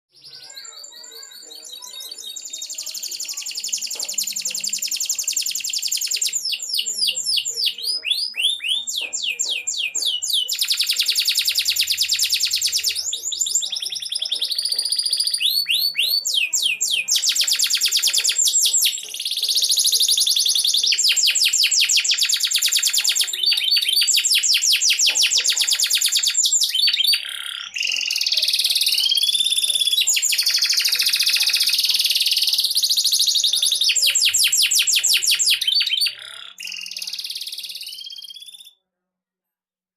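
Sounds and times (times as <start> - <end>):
canary singing trills: 0.1 - 38.8.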